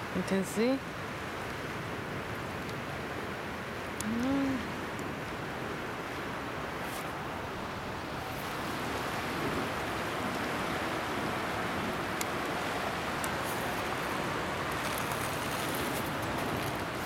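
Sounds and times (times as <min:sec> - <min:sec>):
fast-flowing river rushing: 0:00.8 - 0:17.0.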